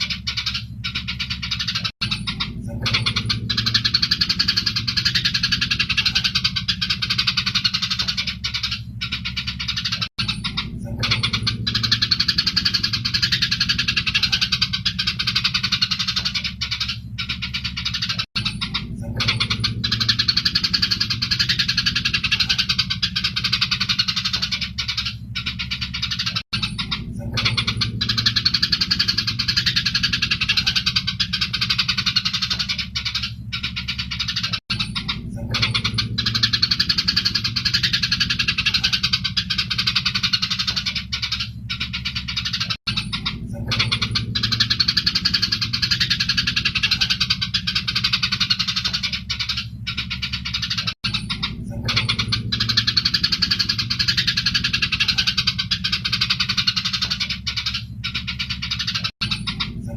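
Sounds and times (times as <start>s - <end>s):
sparrows chattering: 0.0s - 59.9s
steady low hum: 0.0s - 59.9s.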